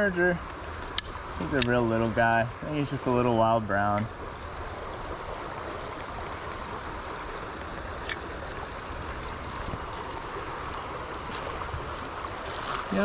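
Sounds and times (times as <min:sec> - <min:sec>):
creek flowing over rocks: 0:00.0 - 0:13.0.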